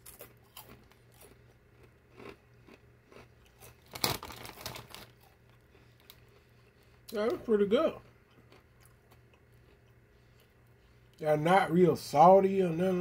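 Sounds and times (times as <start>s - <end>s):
mouth chewing crunchy snack: 0.0s - 11.2s.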